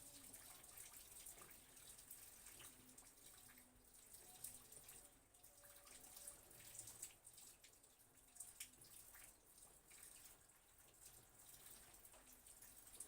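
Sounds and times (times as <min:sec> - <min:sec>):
faint rain falling: 0:00.0 - 0:13.0.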